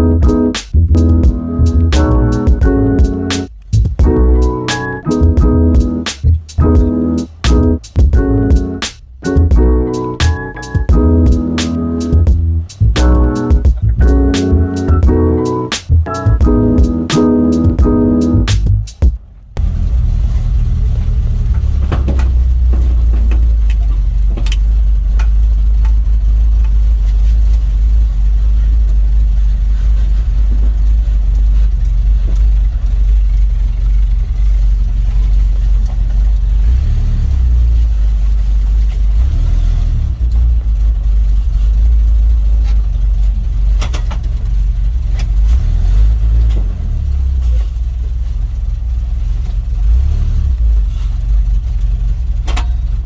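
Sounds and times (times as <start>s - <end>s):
truck engine rumbling: 0.0s - 53.0s.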